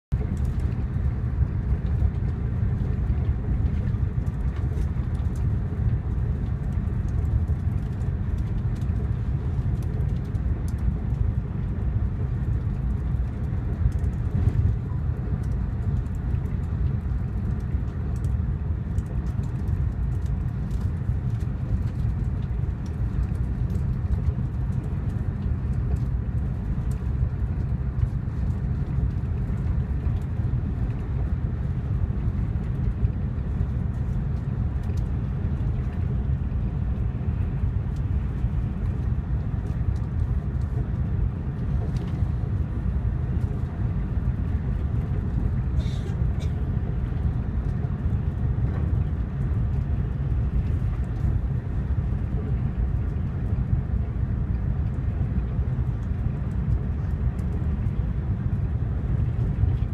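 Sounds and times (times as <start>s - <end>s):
high-speed train rumble inside cabin: 0.0s - 59.9s.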